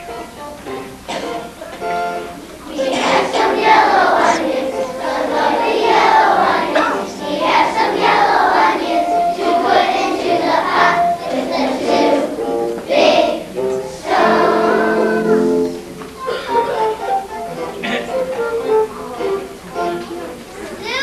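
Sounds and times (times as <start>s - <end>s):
children singing: 0.0s - 20.6s.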